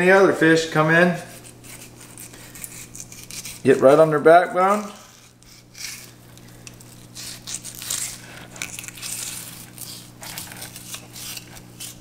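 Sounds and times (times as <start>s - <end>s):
steady low hum: 0.0s - 12.0s
knife scraping through fish scales: 1.3s - 12.0s.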